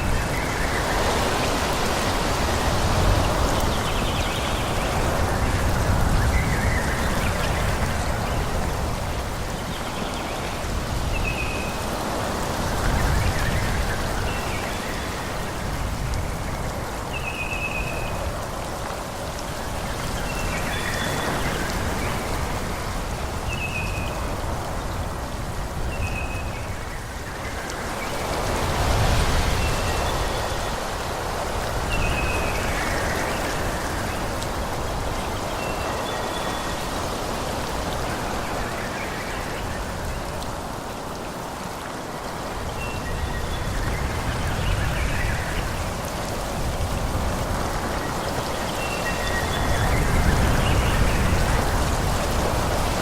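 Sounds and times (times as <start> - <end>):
wind blowing through forest: 0.0 - 53.0.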